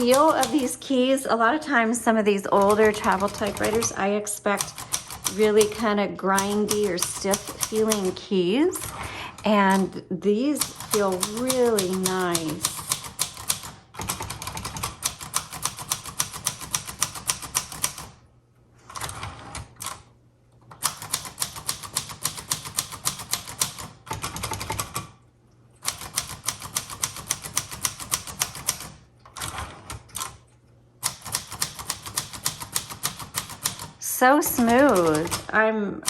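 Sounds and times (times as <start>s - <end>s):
typewriter keys clacking: 0.0s - 0.8s, 2.5s - 10.0s, 10.6s - 18.2s, 20.8s - 25.1s, 25.8s - 30.4s, 31.0s - 35.5s.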